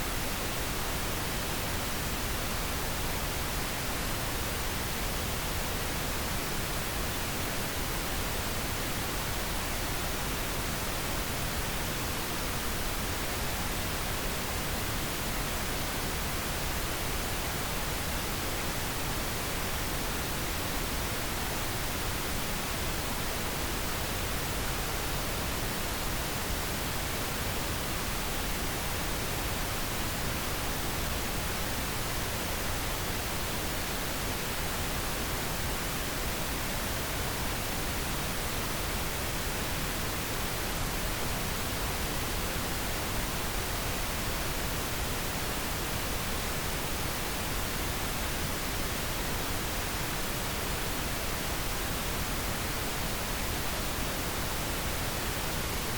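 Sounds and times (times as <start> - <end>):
pink noise hiss: 0.0 - 55.9.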